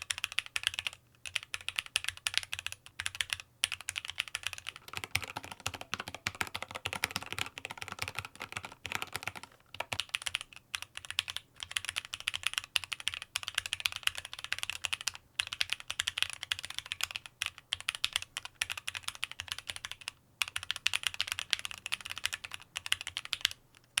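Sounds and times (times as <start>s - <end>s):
mechanical keyboard typing: 0.0s - 24.0s.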